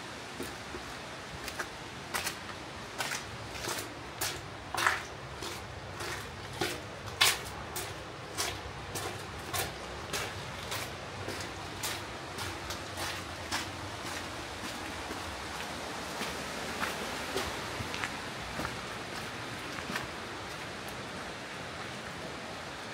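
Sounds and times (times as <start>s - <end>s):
crunching footsteps on trail: 0.2s - 22.0s.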